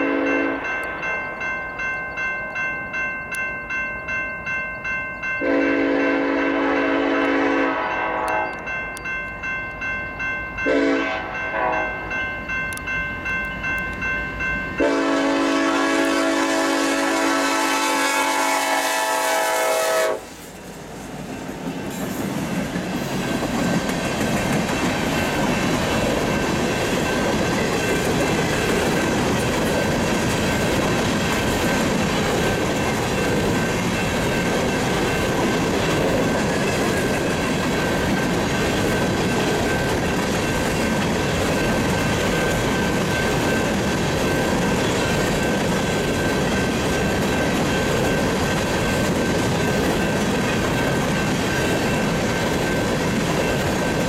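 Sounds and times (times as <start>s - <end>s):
diesel locomotives passing: 0.0s - 54.0s.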